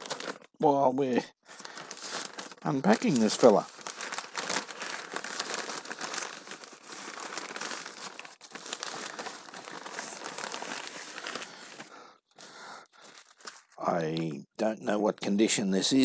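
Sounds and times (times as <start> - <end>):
plastic and bubble wrap crinkling: 0.0 - 14.4.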